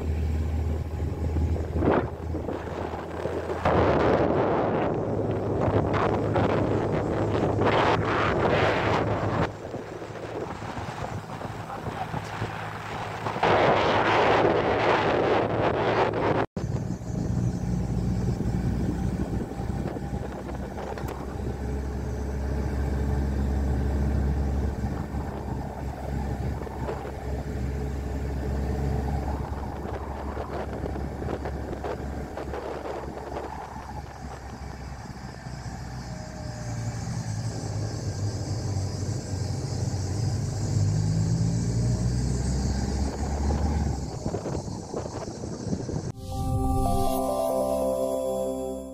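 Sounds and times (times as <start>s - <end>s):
road rumble: 0.0s - 47.4s.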